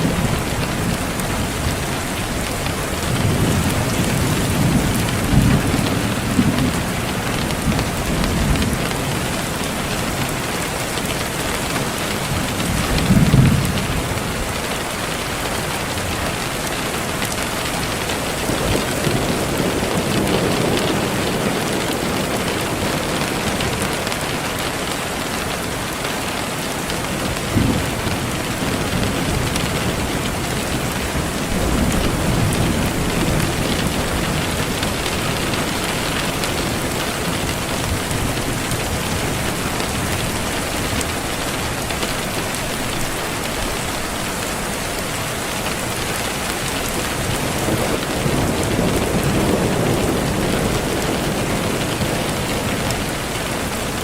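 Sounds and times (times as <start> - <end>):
low thunder rolls: 0.0 - 14.7, 17.2 - 24.5, 27.0 - 41.1, 46.2 - 54.0
steady rain falling: 0.0 - 54.0.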